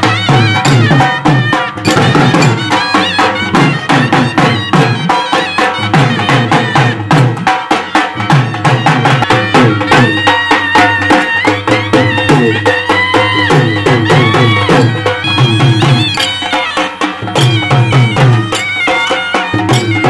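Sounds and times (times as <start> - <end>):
bagpipe drone: 0.0 - 20.0
drum beats: 0.0 - 20.0
reedy melody: 0.0 - 20.0.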